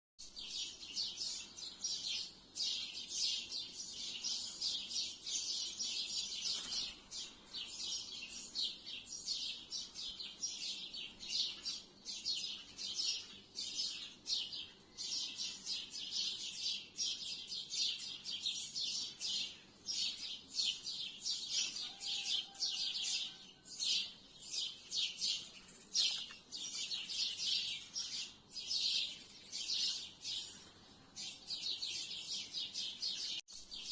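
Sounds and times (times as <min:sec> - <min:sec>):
sparrows chirping: 0:00.2 - 0:33.9.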